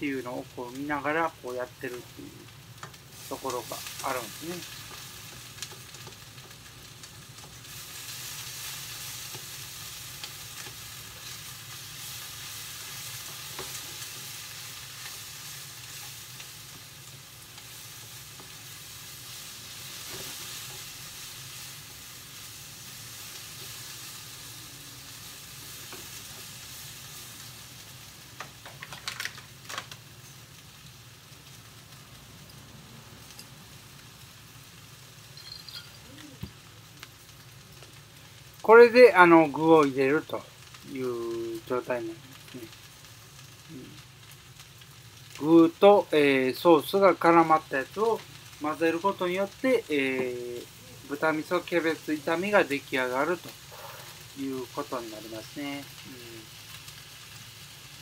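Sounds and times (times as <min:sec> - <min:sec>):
cabbage sizzling in a pan: 0:00.0 - 0:58.0.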